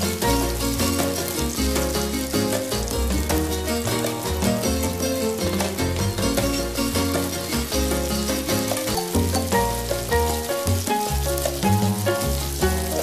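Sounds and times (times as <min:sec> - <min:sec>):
background music with beat: 0:00.0 - 0:13.0
onion sizzling in oil: 0:00.0 - 0:13.0.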